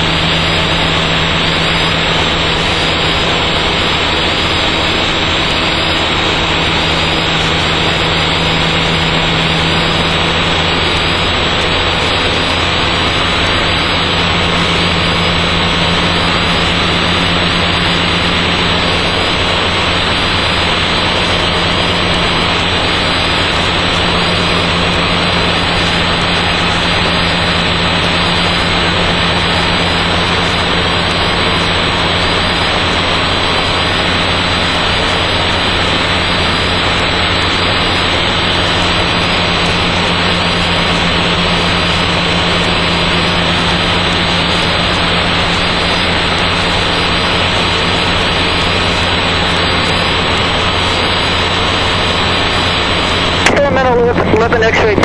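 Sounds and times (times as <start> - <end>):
aircraft engine and propeller droning: 0.0 - 55.0
wind and airframe noise: 0.0 - 55.0.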